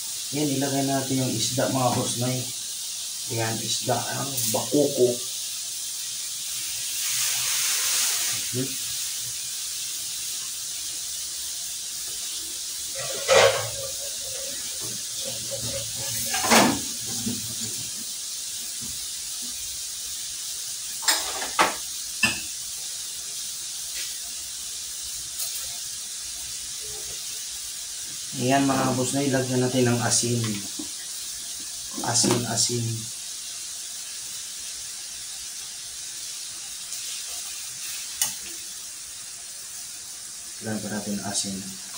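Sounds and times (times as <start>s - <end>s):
water heating on gas burner hiss: 0.0s - 41.9s.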